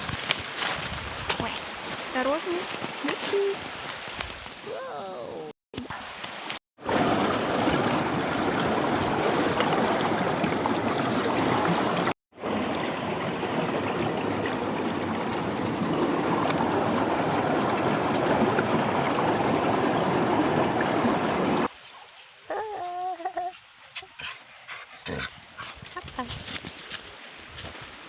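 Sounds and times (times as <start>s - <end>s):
flowing water rushing: 1.1s - 24.4s.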